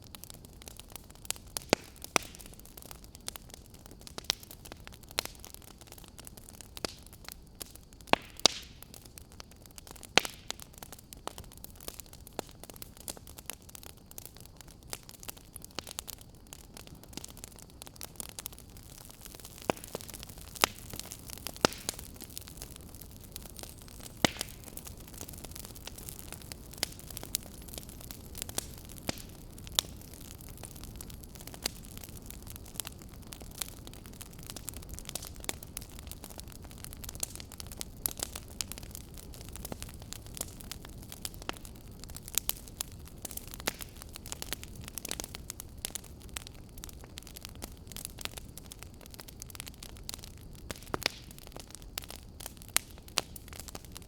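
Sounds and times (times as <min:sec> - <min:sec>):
soft steady hiss: 0:00.0 - 0:54.0
wood fire crackling: 0:00.0 - 0:54.0.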